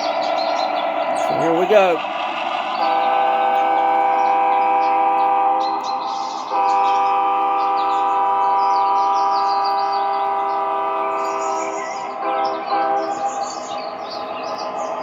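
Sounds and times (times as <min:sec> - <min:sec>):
multi-tone train horn blasts: 0:01.1 - 0:15.0.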